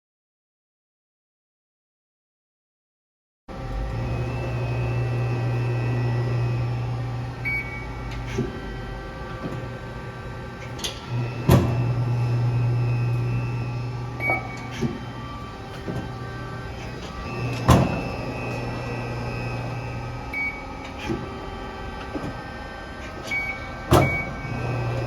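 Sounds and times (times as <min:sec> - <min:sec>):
press brake machine hum: 0:03.5 - 0:25.0.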